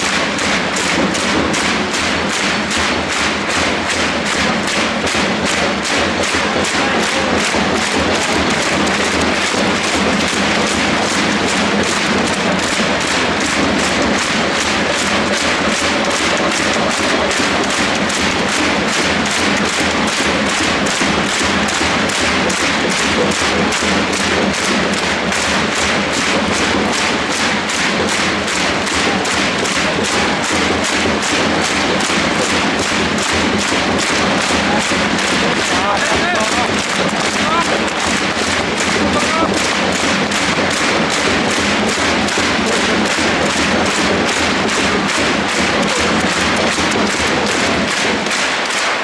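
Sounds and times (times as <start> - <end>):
drumbeats: 0.0 - 49.0
rhythmic clapping: 0.0 - 49.0
stadium crowd din: 0.0 - 49.0.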